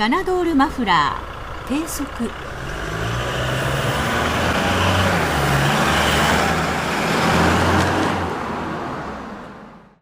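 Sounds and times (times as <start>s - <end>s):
diesel exhaust drone: 0.0s - 8.5s.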